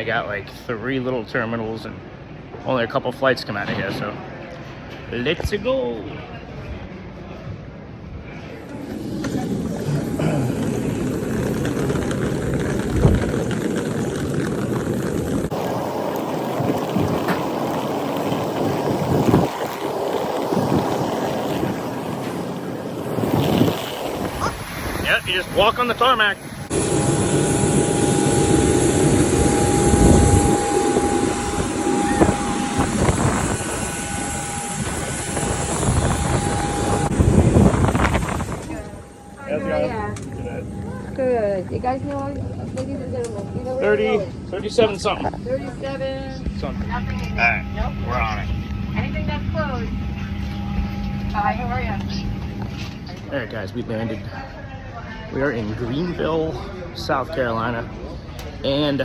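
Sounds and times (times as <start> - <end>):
aircraft engines running: 7.9 - 57.2.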